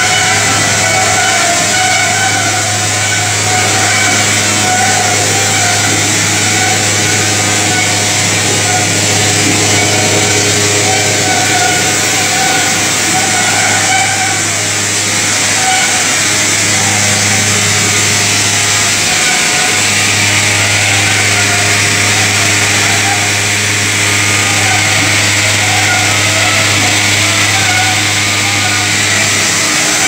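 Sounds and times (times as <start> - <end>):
drum dryer machinery noise: 0.0 - 30.0.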